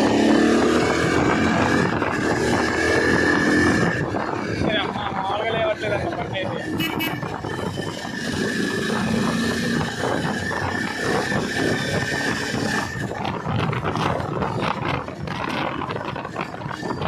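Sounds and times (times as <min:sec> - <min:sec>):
motorcycle engine: 0:00.0 - 0:17.0
road and wind noise: 0:00.0 - 0:17.0.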